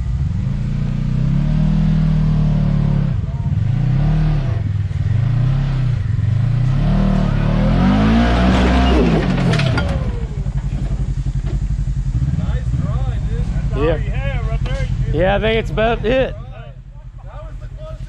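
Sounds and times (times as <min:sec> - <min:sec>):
utility vehicle engine revving: 0:00.0 - 0:18.0.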